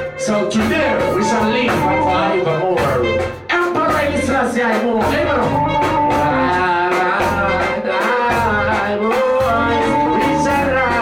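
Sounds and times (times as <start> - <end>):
reggae band playing: 0.0 - 11.0
man singing into microphone: 0.2 - 11.0.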